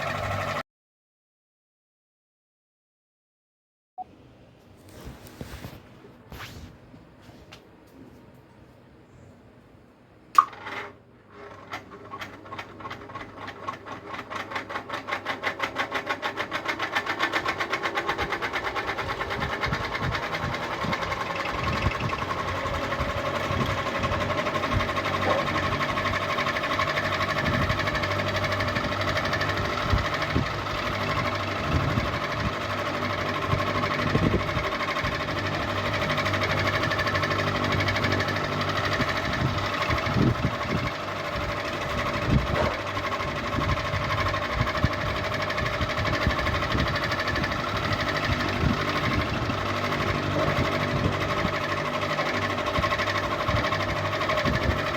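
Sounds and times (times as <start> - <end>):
ceiling fan whirring: 0.0 - 0.6, 4.0 - 54.9.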